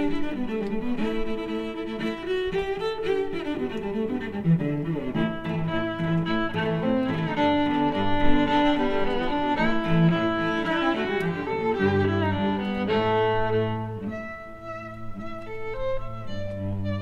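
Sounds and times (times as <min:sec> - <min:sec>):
bowed cello-like notes: 0:00.0 - 0:17.0
fiddle-like melody: 0:00.0 - 0:17.0.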